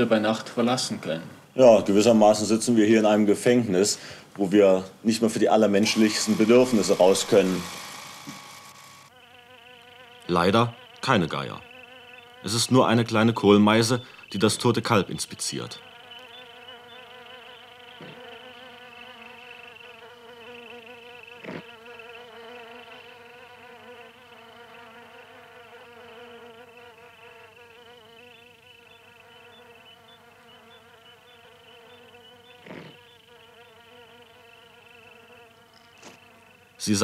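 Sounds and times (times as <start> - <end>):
flies buzzing: 1.7 - 37.0.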